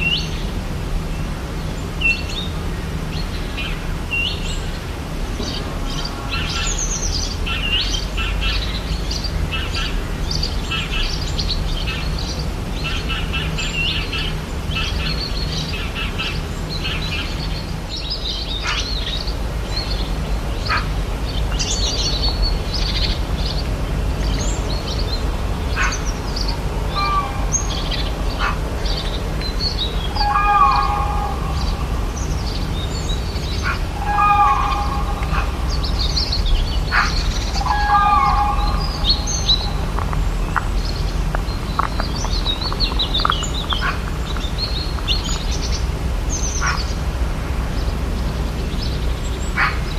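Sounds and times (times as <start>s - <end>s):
birds chirping and twittering: 0.0s - 49.9s
steady low rumble: 0.0s - 49.9s.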